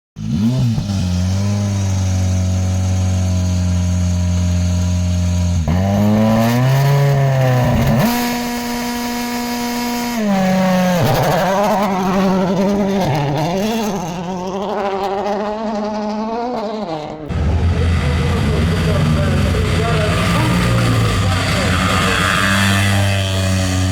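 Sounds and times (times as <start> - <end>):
race car engine revving: 0.2 - 23.9.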